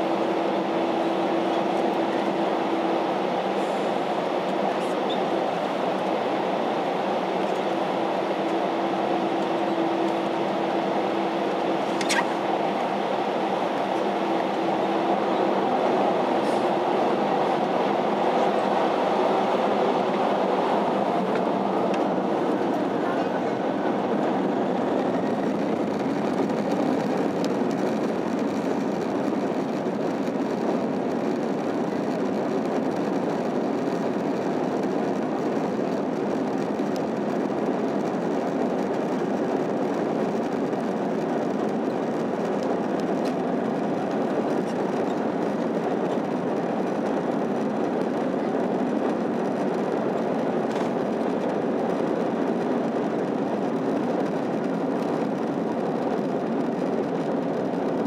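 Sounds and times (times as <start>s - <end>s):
jet engines roaring: 0.0s - 58.0s
wheels rumbling on runway: 0.0s - 58.0s.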